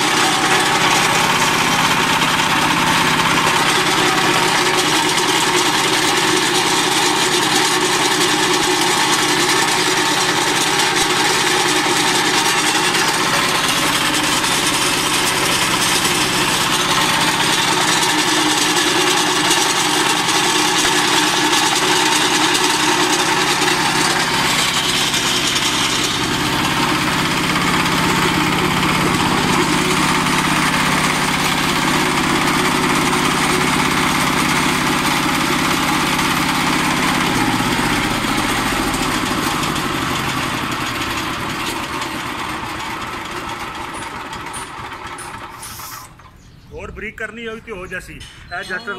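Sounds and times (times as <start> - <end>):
stone crusher running: 0.0 - 46.3
diesel engine: 0.0 - 48.9.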